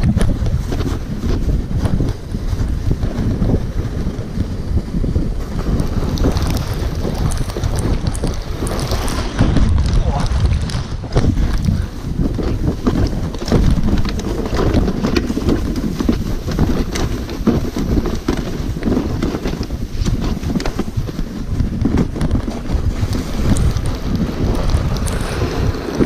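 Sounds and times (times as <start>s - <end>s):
sled runners scraping on snow: 0.0s - 26.0s
wind buffeting microphone: 0.0s - 26.0s.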